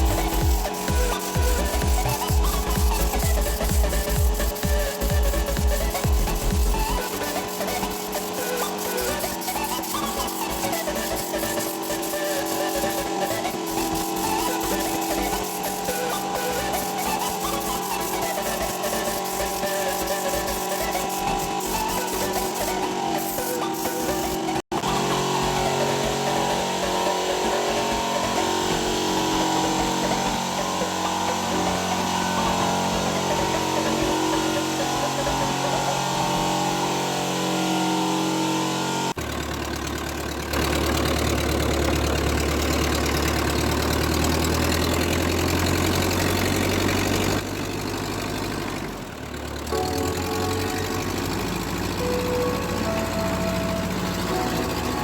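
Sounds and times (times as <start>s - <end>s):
tractor engine running: 0.0s - 37.6s, 38.7s - 55.0s.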